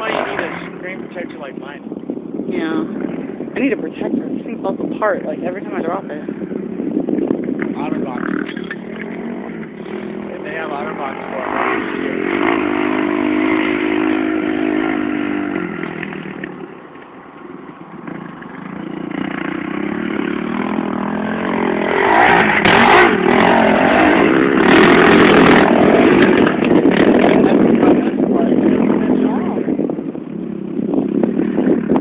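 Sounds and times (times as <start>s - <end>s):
dirt bike engines: 0.0s - 32.0s.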